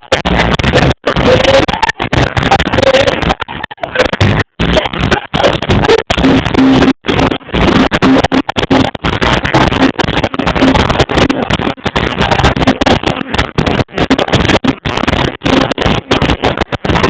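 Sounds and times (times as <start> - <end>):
distorted live reggae band: 0.0 - 17.0.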